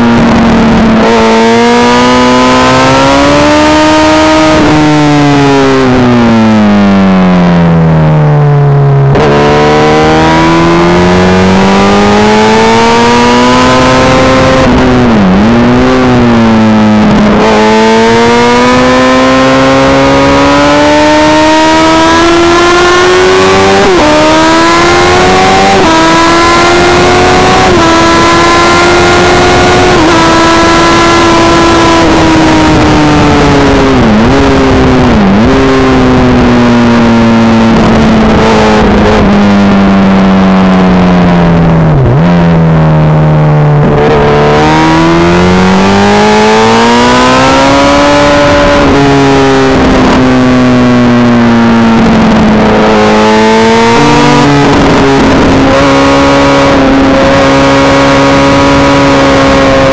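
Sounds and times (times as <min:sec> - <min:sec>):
motorcycle engine at speed: 0:00.0 - 0:59.9.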